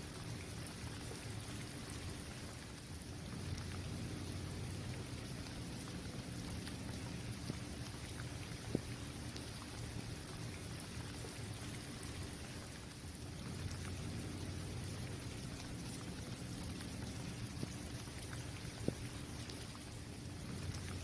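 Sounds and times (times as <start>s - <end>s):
rain on a hard surface: 0.0s - 21.0s
raindrops ticking: 0.0s - 21.0s.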